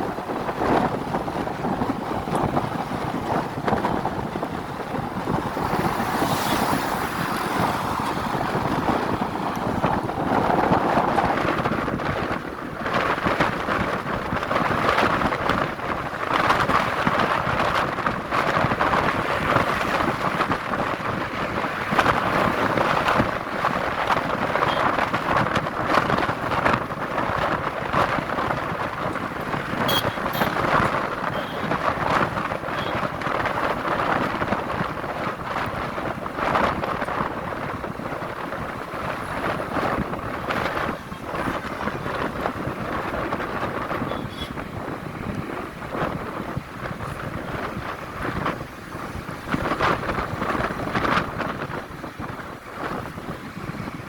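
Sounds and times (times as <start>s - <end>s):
truck road noise: 0.0s - 54.0s
wind buffeting microphone: 0.0s - 54.0s.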